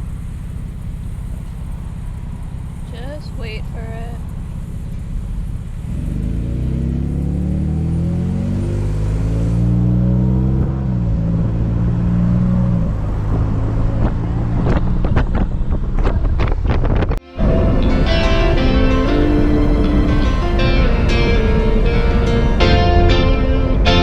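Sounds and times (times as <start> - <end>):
car engine accelerating: 0.0 - 24.0
exhaust cracking: 0.0 - 24.0.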